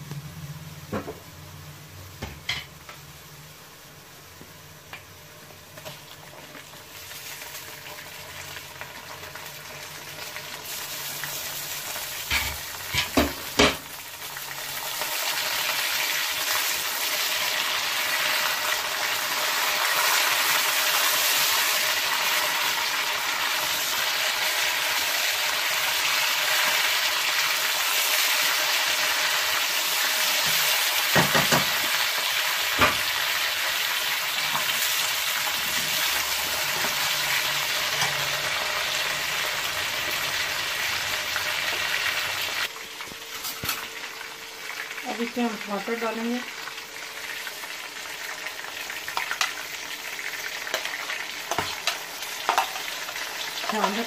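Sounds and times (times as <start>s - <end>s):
chicken sizzling in hot oil: 1.4s - 54.0s.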